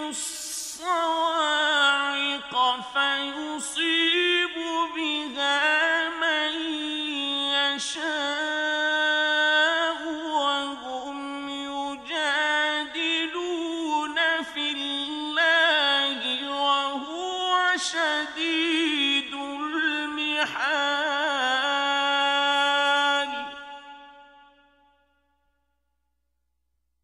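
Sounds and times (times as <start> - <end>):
man reciting melodically: 0.0 - 24.4.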